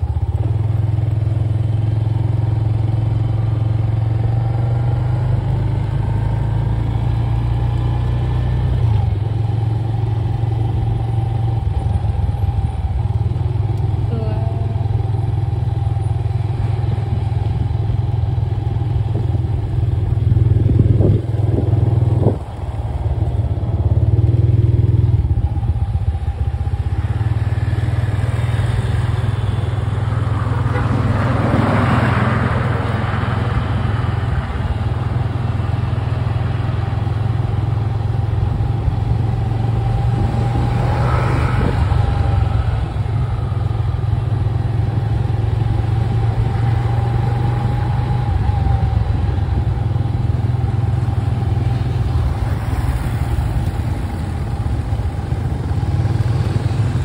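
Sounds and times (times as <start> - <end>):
motorcycle engine cruising: 0.0 - 57.0
passing motorcycles: 0.0 - 57.0.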